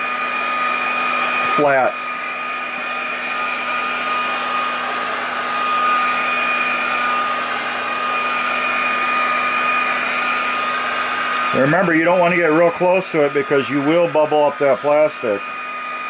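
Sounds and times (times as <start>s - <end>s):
heat gun fan blowing: 0.0s - 16.0s.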